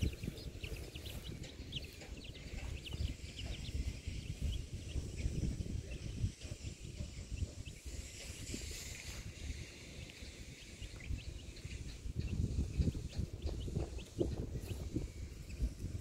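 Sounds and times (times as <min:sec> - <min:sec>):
chicks peeping: 0:00.0 - 0:16.0
low rumbling noise: 0:00.0 - 0:16.0.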